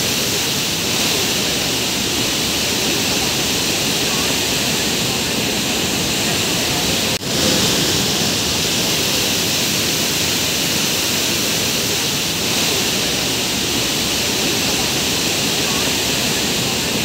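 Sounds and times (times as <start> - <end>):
water rushing from spillway: 0.0 - 17.0.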